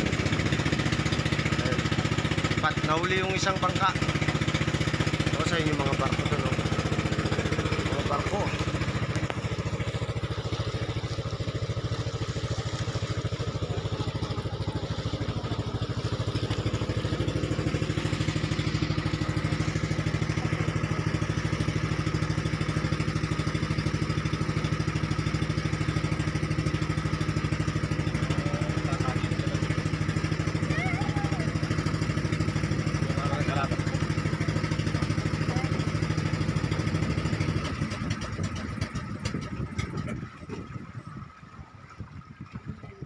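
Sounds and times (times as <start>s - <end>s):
boat engine chugging: 0.0s - 43.0s.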